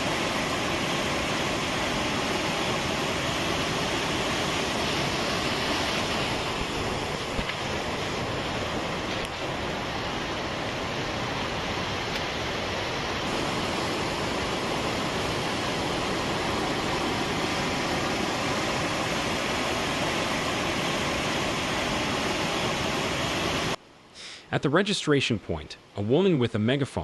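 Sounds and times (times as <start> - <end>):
floodwater rushing: 0.0 - 23.8.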